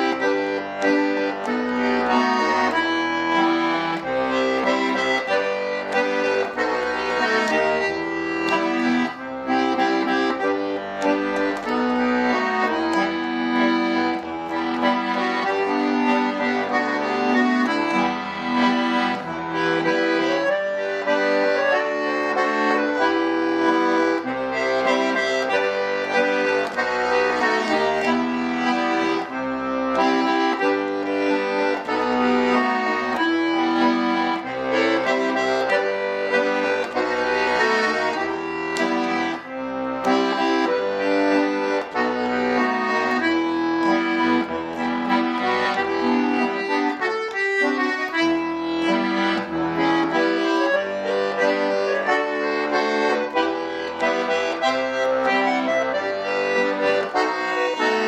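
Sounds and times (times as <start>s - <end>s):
accordion playing a melody: 0.0s - 58.0s.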